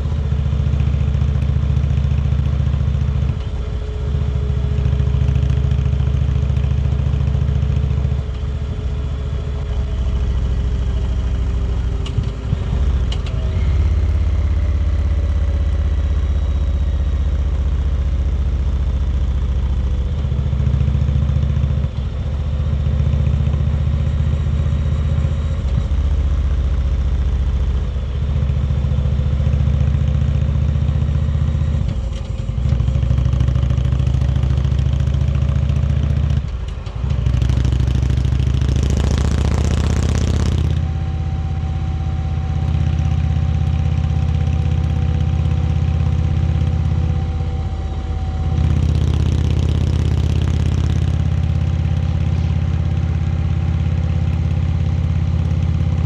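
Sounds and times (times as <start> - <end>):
motorcycle engine cruising: 0.0 - 27.0, 28.1 - 56.0.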